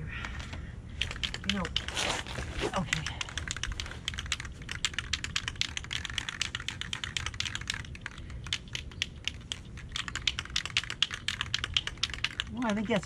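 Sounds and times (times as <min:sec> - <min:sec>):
mixing ball rattling in spray can: 0:01.0 - 0:13.0.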